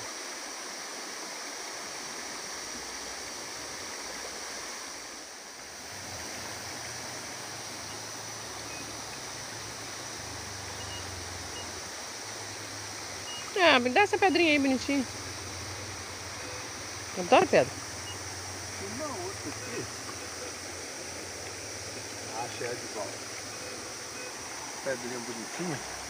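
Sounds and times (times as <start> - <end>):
waterfall rushing water: 0.0 - 26.0.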